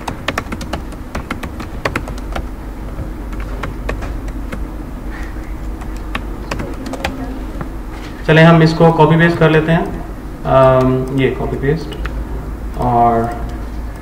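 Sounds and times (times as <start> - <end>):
keyboard keys clicking: 0.0 - 4.6, 5.2 - 7.8, 9.2 - 14.0
steady low hum: 0.0 - 14.0.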